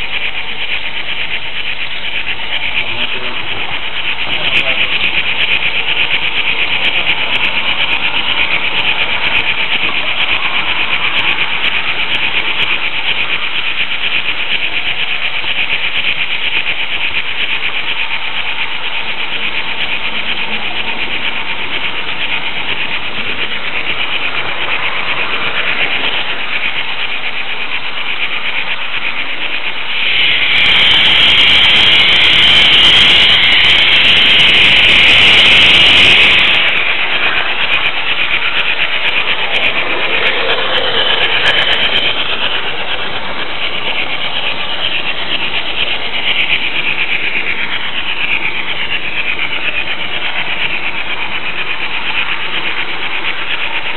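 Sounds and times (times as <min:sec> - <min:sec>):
model train wheels and motor whirring: 0:00.0 - 0:53.9.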